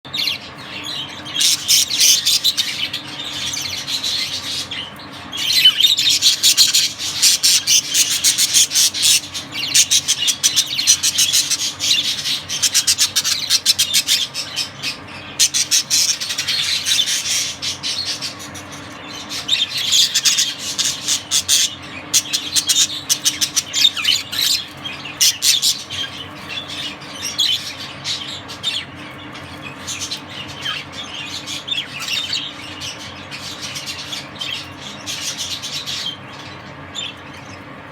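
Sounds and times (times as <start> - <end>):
budgerigars chattering: 0.1 - 37.7.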